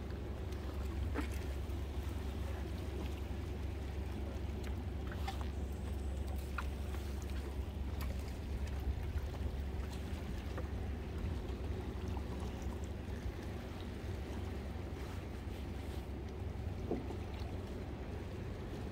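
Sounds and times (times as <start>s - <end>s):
low mechanical hum: 0.0s - 18.9s.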